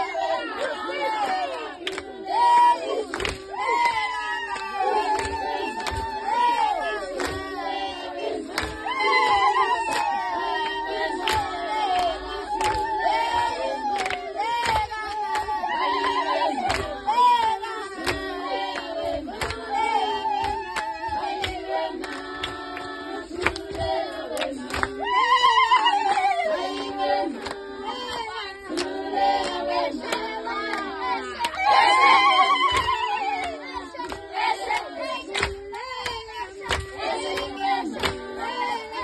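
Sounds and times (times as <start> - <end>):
women singing together: 0.0 - 39.0.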